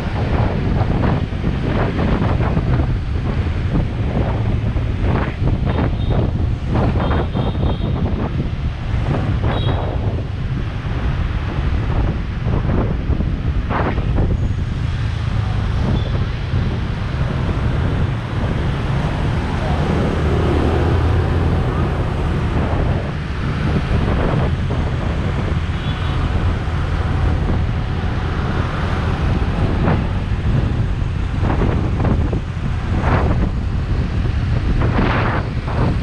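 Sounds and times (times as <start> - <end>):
traffic rumble: 0.0 - 36.0
wind buffeting microphone: 0.0 - 36.0.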